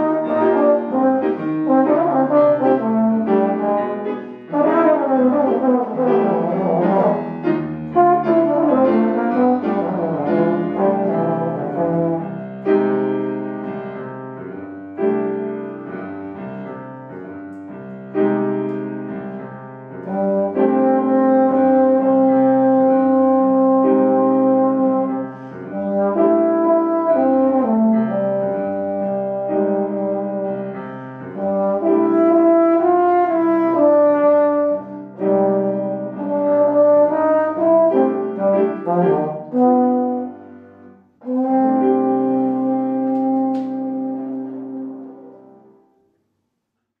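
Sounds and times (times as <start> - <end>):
low brass instrument melody: 0.0 - 46.2
piano accompaniment: 0.0 - 47.0.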